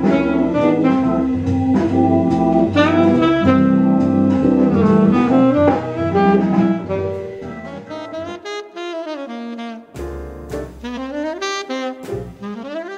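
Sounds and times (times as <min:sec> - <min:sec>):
deep bass accompaniment: 0:00.0 - 0:08.5, 0:09.8 - 0:12.9
saxophone playing jazz melody: 0:00.0 - 0:12.9.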